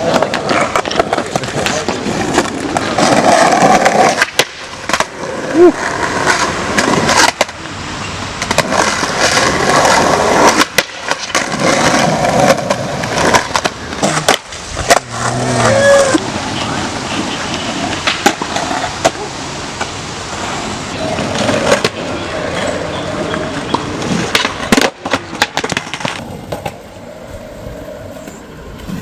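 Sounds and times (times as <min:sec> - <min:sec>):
skateboard wheels rolling: 0:00.0 - 0:29.0
skateboards striking ground: 0:00.0 - 0:29.0.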